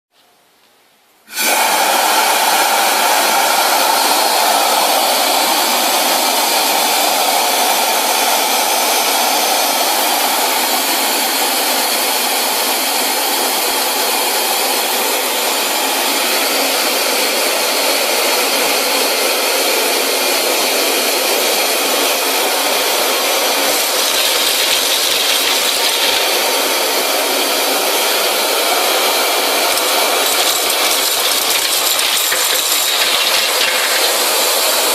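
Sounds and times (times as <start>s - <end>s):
vacuum cleaner rushing hiss: 1.2s - 34.9s.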